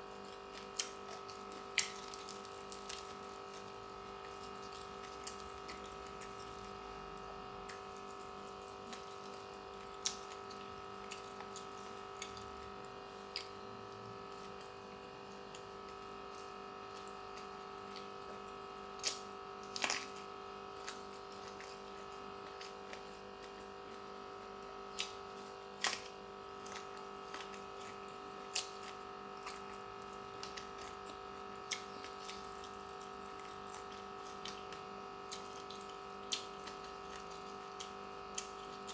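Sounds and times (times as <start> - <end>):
chewing and mouth clicks: 0.0 - 38.9.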